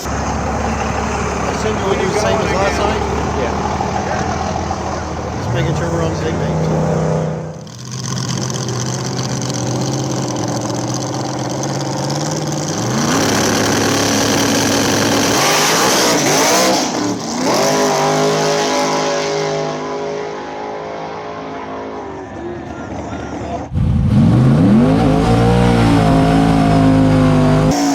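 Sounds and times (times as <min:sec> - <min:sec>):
drag race car engine revving: 0:00.0 - 0:27.9.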